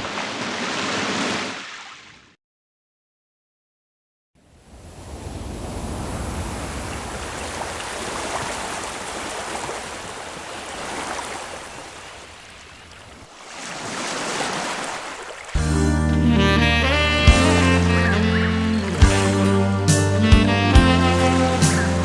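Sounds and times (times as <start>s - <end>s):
rushing water: 0.0s - 2.1s, 4.7s - 22.0s.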